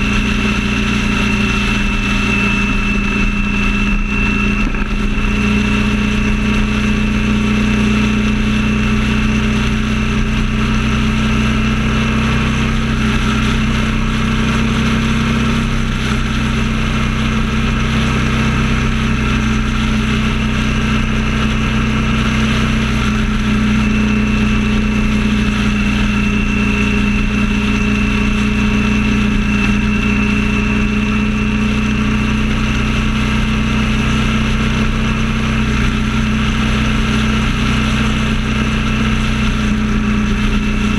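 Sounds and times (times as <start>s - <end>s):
road and wind noise: 0.0s - 40.9s
vehicle engine droning: 0.0s - 40.9s.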